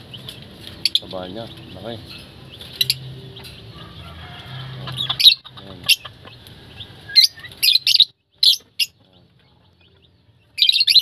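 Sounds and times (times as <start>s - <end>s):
lovebirds chirping: 0.0s - 11.0s.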